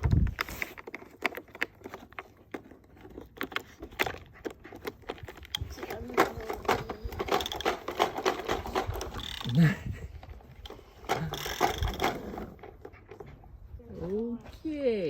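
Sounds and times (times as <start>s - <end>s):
plastic toy clicking and rattling: 0.2s - 13.2s.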